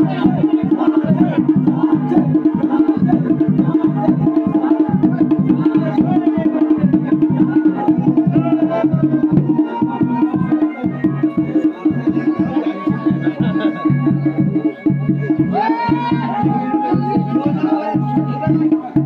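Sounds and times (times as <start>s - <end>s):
drums in fast rhythm: 0.0s - 19.0s.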